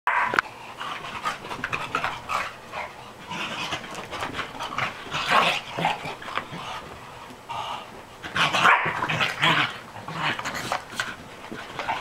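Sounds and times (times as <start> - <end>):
dogs making play noises: 0.1 - 12.0
scuffling and paw clicking: 0.4 - 7.5, 8.2 - 12.0.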